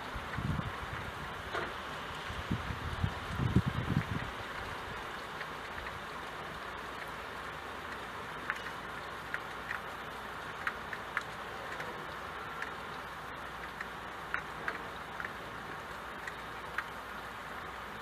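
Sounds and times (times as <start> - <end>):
rain on window glass: 0.0 - 18.0.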